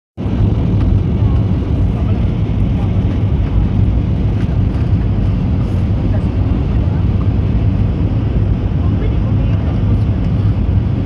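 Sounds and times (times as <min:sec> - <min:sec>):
airplane cabin rumble: 0:00.2 - 0:11.0.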